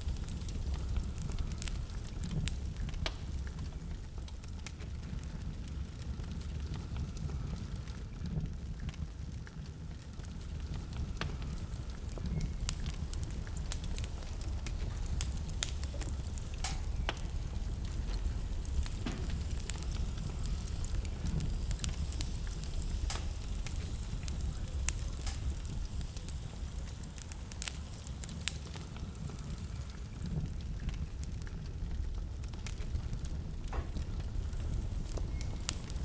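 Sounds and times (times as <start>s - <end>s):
fire crackles and pops: 0.0s - 36.0s
fire flames rumbling: 0.0s - 36.0s.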